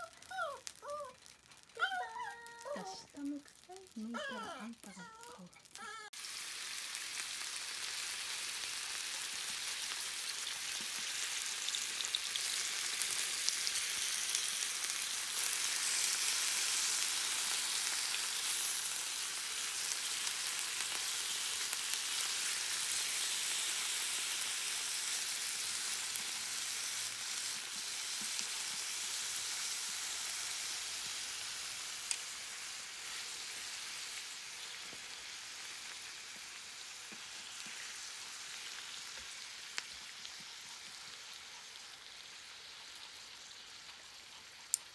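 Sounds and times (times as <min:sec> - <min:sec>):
beef sizzling on a hot plate: 0:00.0 - 0:44.9.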